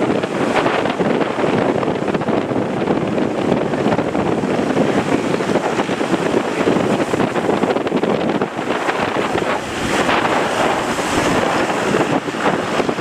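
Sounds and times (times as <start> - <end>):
sea surf: 0.0 - 13.0
strong wind buffeting microphone: 0.0 - 13.0.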